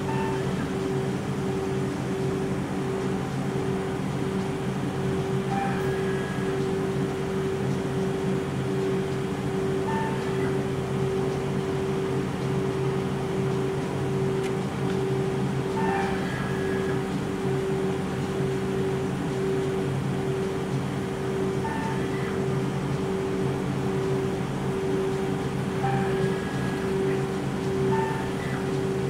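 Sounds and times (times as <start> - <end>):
ice cream machine humming: 0.0 - 29.0.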